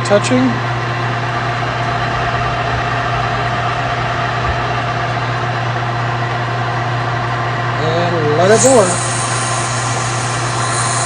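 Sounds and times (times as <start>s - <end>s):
metal lathe humming: 0.0s - 7.8s, 8.4s - 11.0s
lathe cutting whine: 0.2s - 7.8s, 8.4s - 11.0s.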